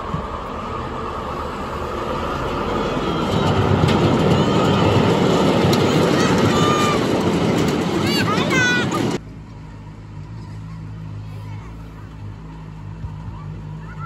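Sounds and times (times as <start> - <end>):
miniature steam locomotive passing: 0.0 - 14.0.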